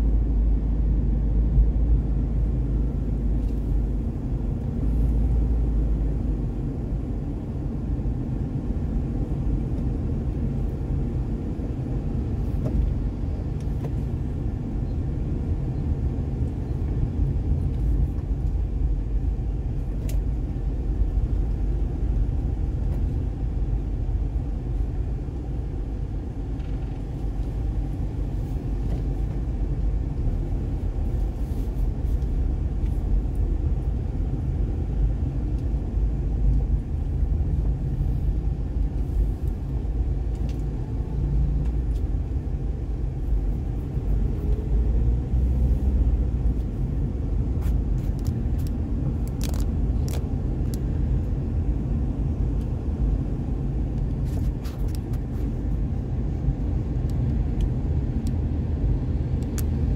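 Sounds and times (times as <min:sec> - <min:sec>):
vehicle rumble in traffic: 0:00.0 - 0:59.9.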